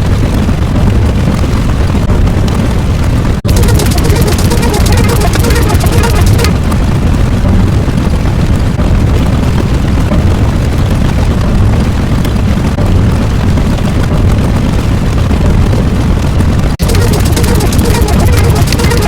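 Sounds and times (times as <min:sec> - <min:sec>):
loud continuous low rumble: 0:00.0 - 0:19.0.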